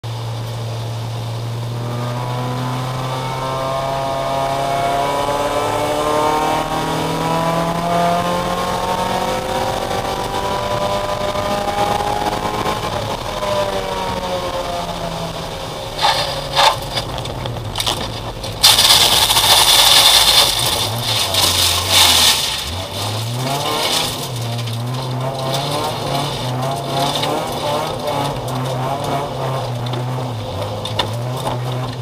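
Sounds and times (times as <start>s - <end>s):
race car engine: 0.0s - 32.0s.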